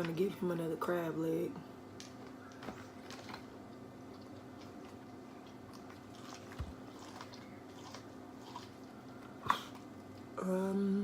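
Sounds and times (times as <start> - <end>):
faint eating sounds: 1.6 - 11.0.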